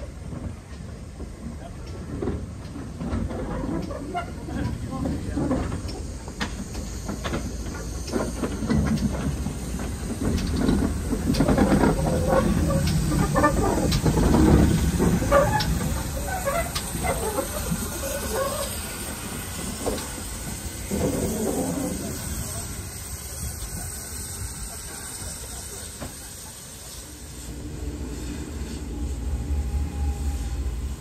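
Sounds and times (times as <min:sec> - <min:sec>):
steam hissing: 0:00.0 - 0:31.0
locomotive wheel clanks: 0:00.3 - 0:27.0.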